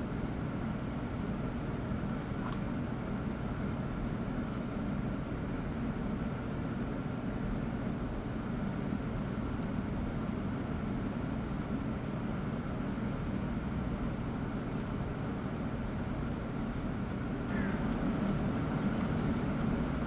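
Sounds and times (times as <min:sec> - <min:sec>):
machinery hum and rumble: 0:00.0 - 0:20.0.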